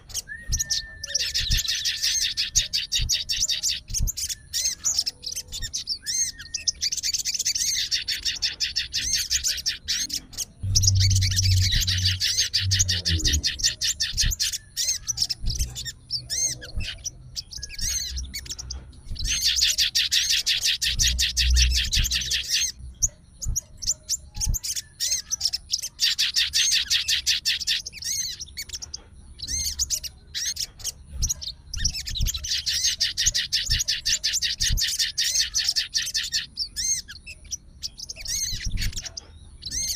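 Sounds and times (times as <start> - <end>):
bird singing rapid chirping trills: 0.0 - 39.9.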